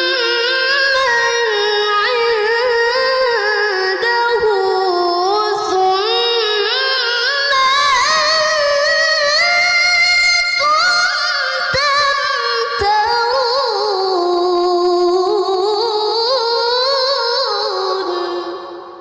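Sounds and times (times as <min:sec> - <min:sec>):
woman reciting melodically: 0:00.0 - 0:19.0.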